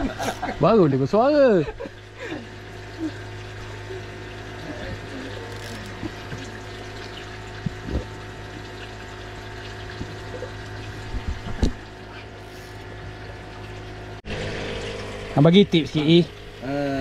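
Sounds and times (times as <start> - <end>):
motor hum: 0.0 - 17.0
water running: 0.0 - 17.0.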